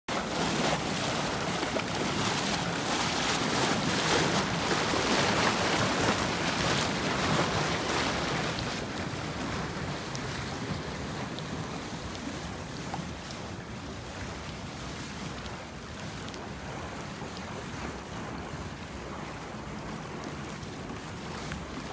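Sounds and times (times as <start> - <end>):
water jets rushing and bubbling: 0.1 - 21.9.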